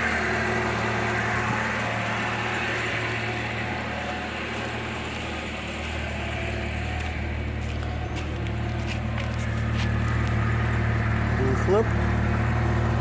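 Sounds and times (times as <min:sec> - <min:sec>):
petrol engine idling: 0:00.0 - 0:13.0.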